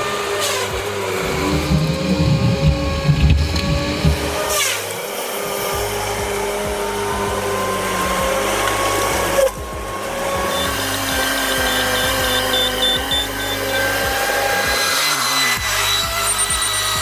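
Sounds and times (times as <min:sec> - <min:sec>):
heavy machinery whining: 0:00.0 - 0:17.0.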